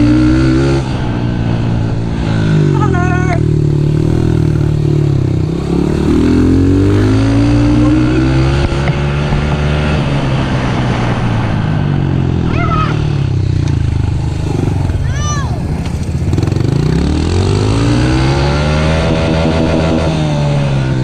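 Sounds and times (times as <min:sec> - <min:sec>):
small vehicle engine revving: 0:00.0 - 0:21.0.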